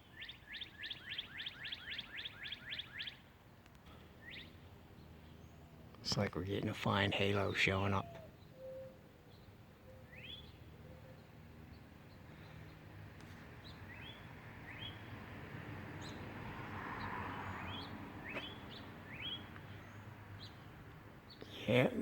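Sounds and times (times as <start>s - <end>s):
songbird chirping: 0.0s - 15.2s, 15.8s - 22.0s.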